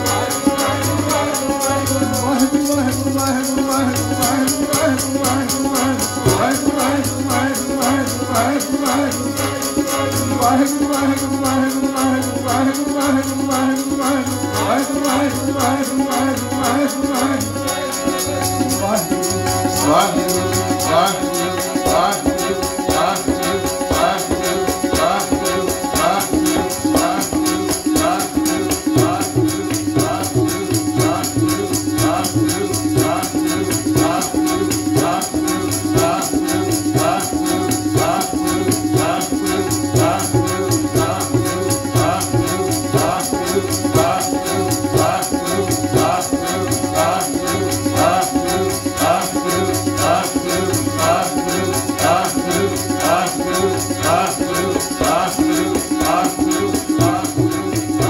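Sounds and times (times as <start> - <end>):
group singing a hymn: 0.0 - 58.0
jingling clappers and hand cymbals: 0.0 - 58.0.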